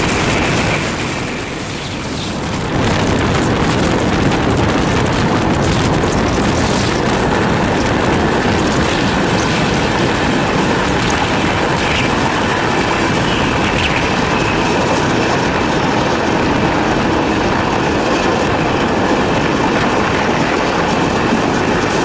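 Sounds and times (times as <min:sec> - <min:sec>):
train wheels rumbling on track: 0:00.0 - 0:22.0
wind rushing over microphone: 0:00.0 - 0:22.0.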